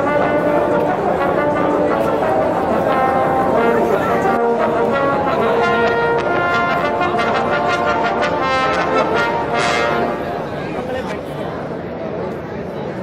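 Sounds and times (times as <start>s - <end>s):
brass music playing: 0.0s - 10.7s
crowd noise: 0.0s - 13.0s.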